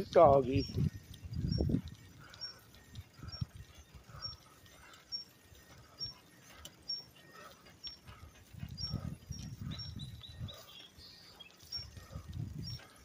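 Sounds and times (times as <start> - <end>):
dog panting: 0.3 - 13.0.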